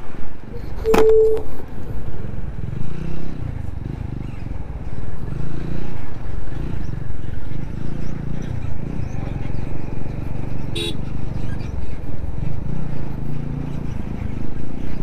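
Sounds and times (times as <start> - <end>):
motorcycle engine revving: 2.2 - 15.0.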